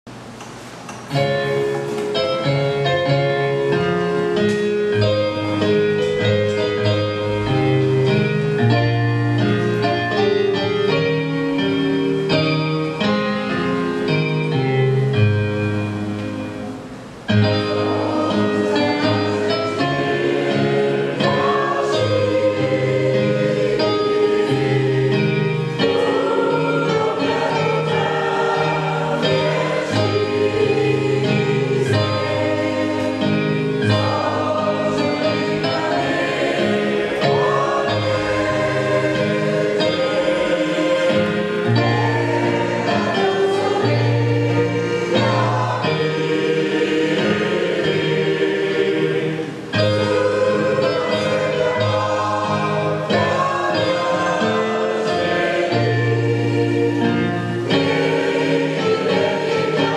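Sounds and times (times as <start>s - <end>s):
keyboard accompaniment: 0.1s - 59.9s
mixed choir singing: 1.1s - 59.9s.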